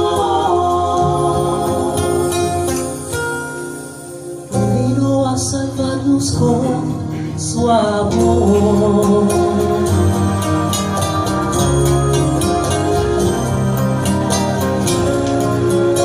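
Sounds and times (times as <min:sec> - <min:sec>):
live band playing soulful tune: 0:00.0 - 0:16.0.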